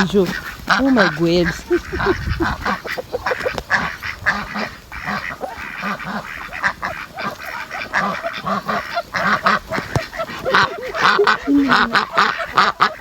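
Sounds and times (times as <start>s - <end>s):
waterfowl flock calling: 0.0s - 13.0s.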